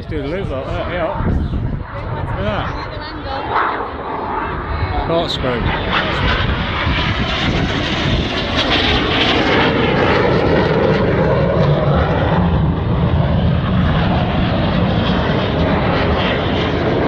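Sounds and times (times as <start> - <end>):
jet engines flying past low: 0.0 - 17.0.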